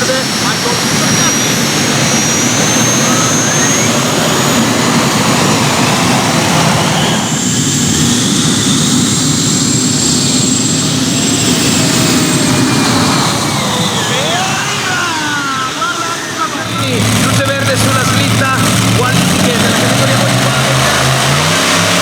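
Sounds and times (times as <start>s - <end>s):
tractor engine running flat out: 0.0s - 22.0s.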